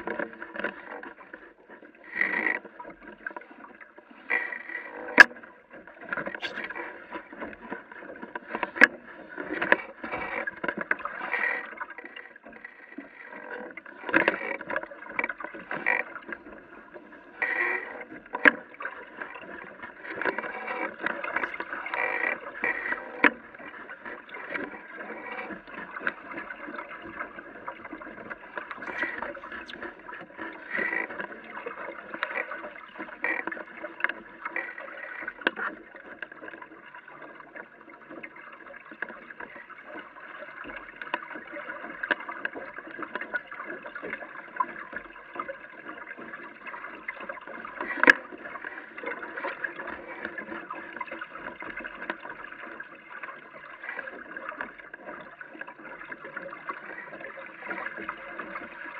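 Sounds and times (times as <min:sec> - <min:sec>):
knocks and clicks from boat: 0:00.0 - 0:58.9
water sloshing against boat hull: 0:00.0 - 0:58.9.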